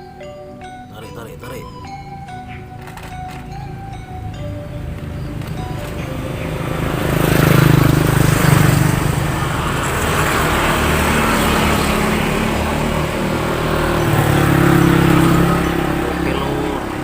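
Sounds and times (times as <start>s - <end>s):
vehicle engine running: 1.8s - 17.0s.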